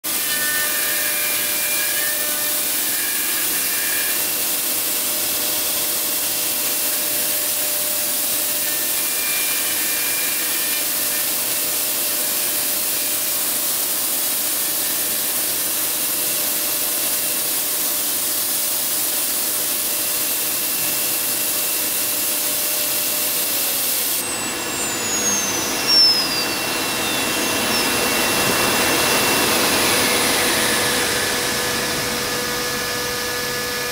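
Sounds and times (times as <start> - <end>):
cnc router spindle hiss and whine: 0.1 - 33.9.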